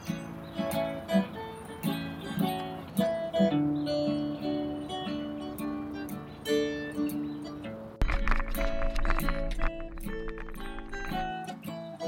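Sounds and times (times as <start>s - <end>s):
acoustic guitar melody: 0.0s - 12.0s.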